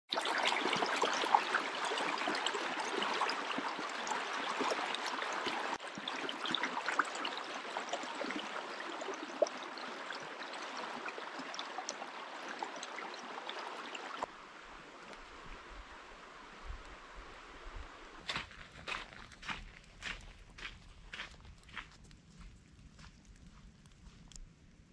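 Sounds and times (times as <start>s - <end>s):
stream splashing over cascade: 0.1s - 20.2s.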